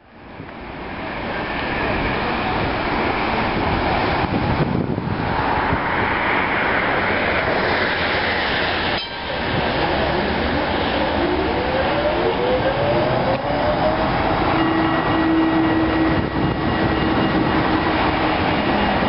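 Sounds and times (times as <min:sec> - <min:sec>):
tram rolling on rails: 0:00.0 - 0:19.0.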